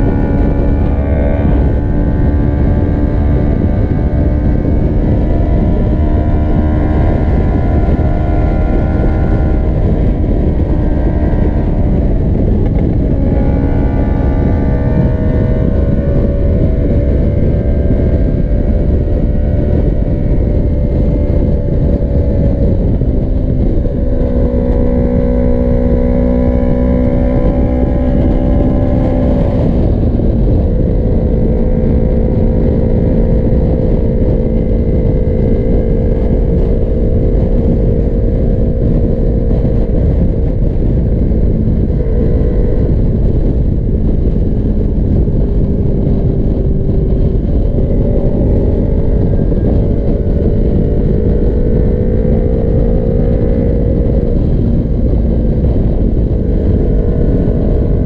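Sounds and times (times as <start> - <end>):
motorcycle engine cruising: 0.0 - 58.0
wind rumble on microphone: 0.0 - 58.0.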